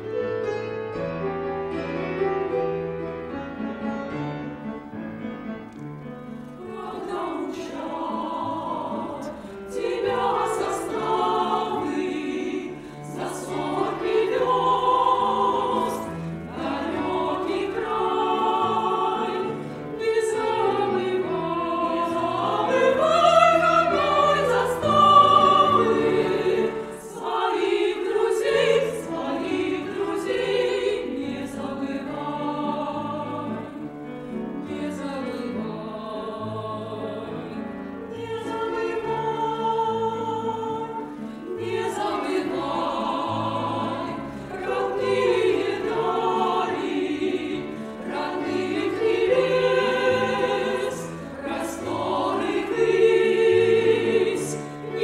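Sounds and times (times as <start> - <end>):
piano accompaniment: 0.0 - 55.0
women singing in harmony: 6.6 - 55.0.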